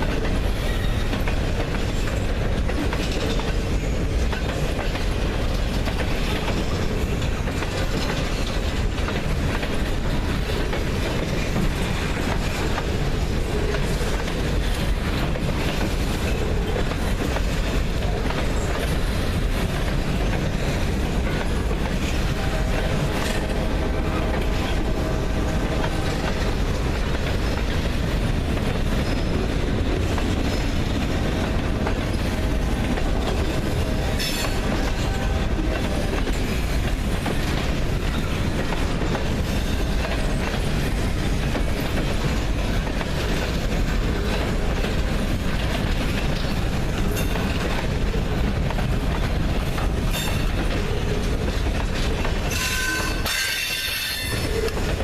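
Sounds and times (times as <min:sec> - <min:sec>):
train wheels clattering over rails: 0:00.0 - 0:55.0.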